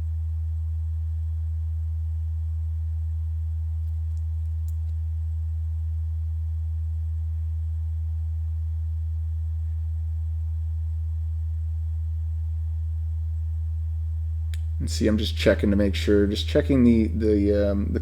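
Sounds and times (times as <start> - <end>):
low-pitched hum: 0.0 - 18.0.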